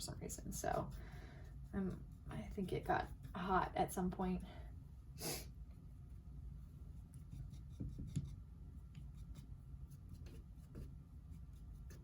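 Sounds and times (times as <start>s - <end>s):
paintbrush scratching on canvas: 0.0s - 4.2s, 5.7s - 12.0s
soft brush dabs: 0.0s - 12.0s.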